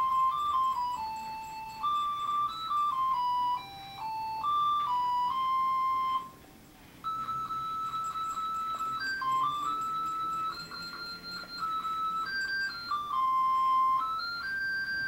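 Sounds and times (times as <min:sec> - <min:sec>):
toy playing electronic chip tune: 0:00.0 - 0:06.4, 0:07.0 - 0:15.0.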